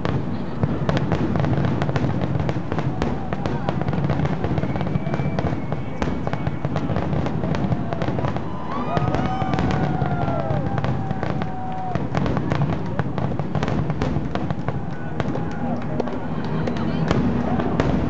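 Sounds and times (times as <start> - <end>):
fireworks whistling: 0.0 - 15.5, 16.3 - 18.0
fireworks bursting: 0.0 - 18.0.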